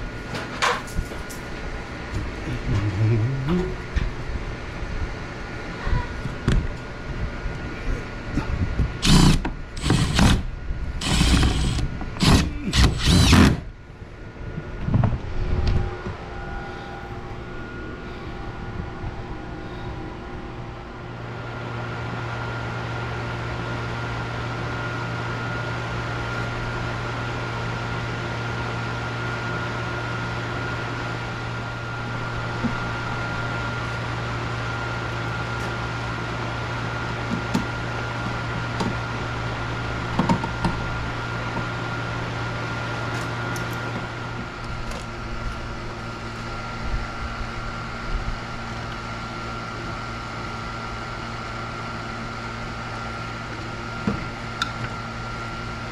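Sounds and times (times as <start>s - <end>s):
steady mechanical hum: 0.0s - 55.9s.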